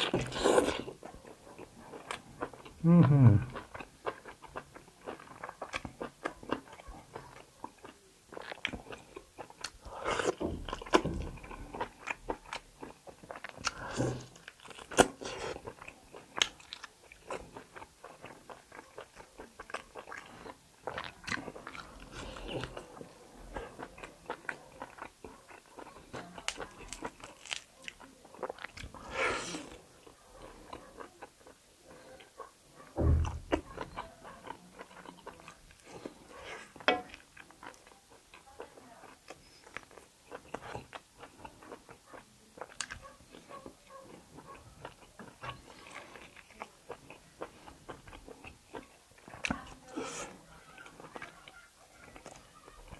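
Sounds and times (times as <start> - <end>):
chewing and crunching meat: 0.0 - 52.9.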